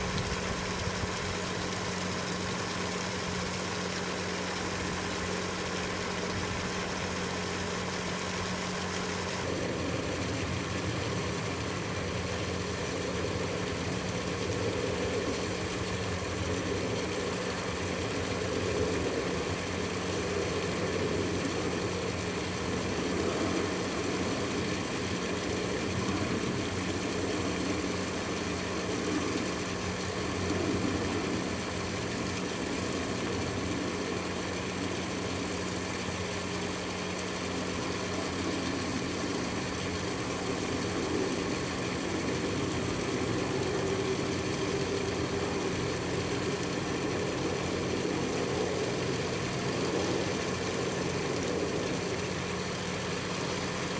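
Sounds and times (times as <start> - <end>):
low mechanical hum: 0.0 - 53.9.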